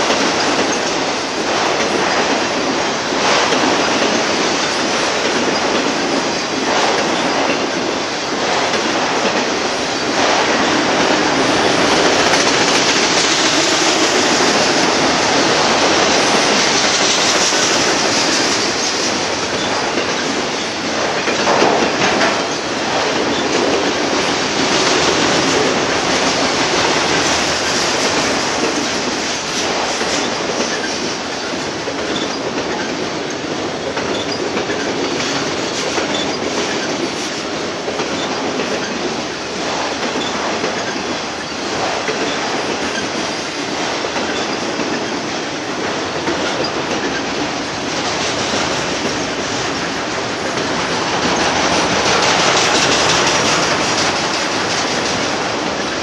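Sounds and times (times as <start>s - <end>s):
freight cars rumbling and rattling: 0.0s - 56.0s.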